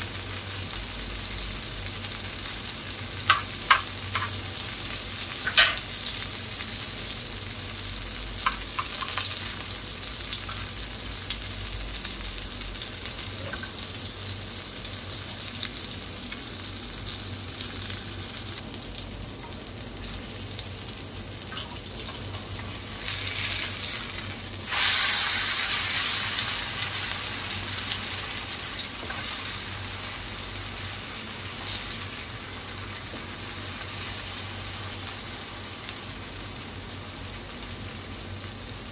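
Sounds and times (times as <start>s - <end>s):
omelette sizzling in oil: 0.0s - 38.9s.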